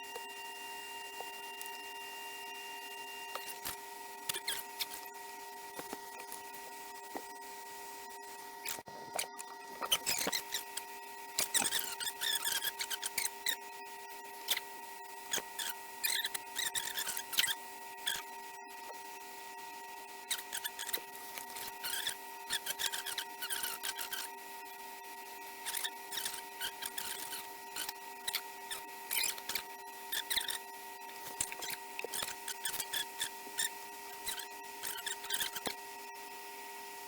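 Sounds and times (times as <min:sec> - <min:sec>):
scratchy clicks and scrapes: 0:03.3 - 0:13.6, 0:14.2 - 0:19.3, 0:20.1 - 0:36.4.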